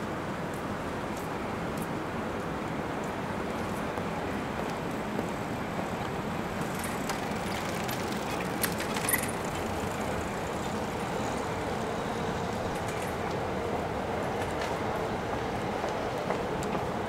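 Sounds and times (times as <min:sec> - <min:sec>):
road traffic passing: 0:00.3 - 0:17.0.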